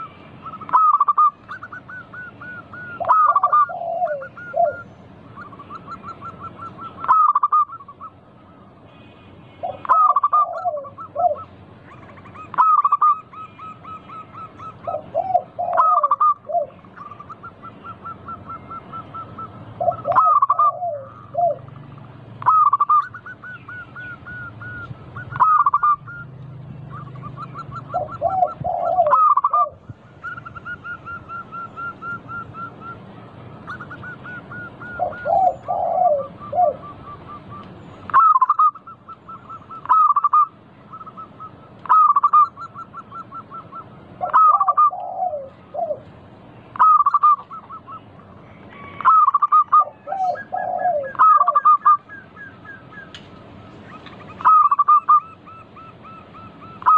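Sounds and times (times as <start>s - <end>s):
dove cooing song: 0.0s - 8.7s, 9.5s - 56.9s.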